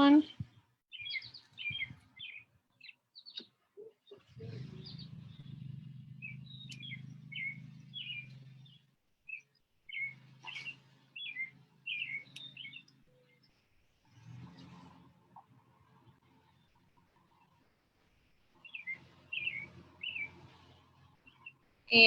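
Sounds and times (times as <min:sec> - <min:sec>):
small bird chirping: 0:00.0 - 0:22.0
low steady rumble: 0:04.1 - 0:22.0.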